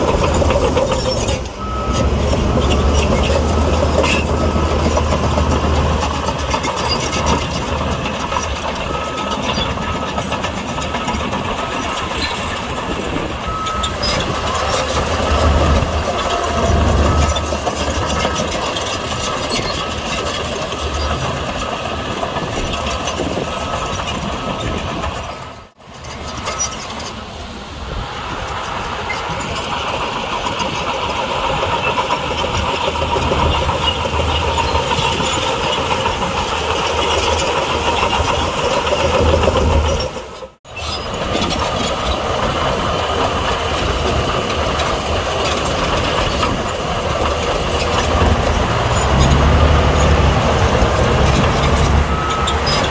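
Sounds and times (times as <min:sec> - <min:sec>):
bulldozer diesel engine under load: 0:00.0 - 0:52.9
steel tracks clattering: 0:00.0 - 0:52.9.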